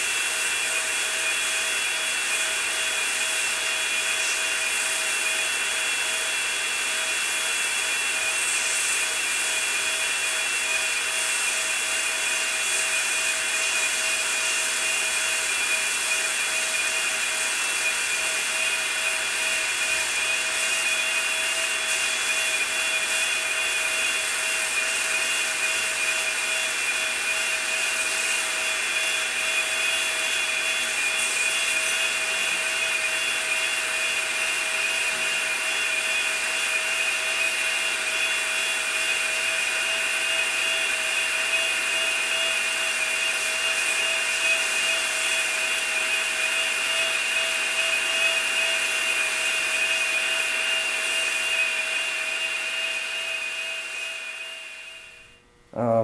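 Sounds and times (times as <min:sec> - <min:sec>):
plastic welder blower whine: 0:00.0 - 0:55.6.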